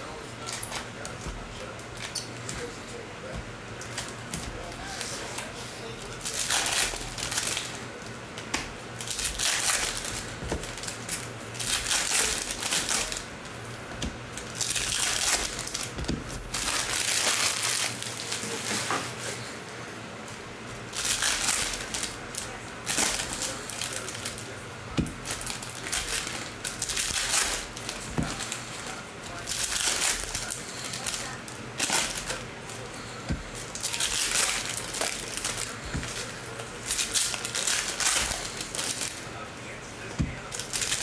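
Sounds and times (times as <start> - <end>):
foil wrappers crinkling and tearing: 0.0 - 8.1, 8.9 - 19.4, 20.9 - 39.4, 40.0 - 41.0.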